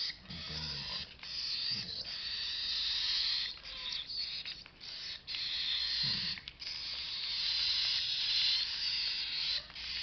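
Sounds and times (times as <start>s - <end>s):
bird chicks hissing begging calls: 0.0s - 10.0s.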